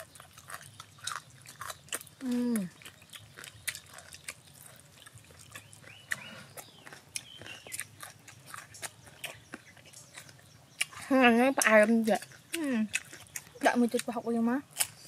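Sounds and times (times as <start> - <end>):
mouth clicks and wet chewing: 0.0 - 15.0.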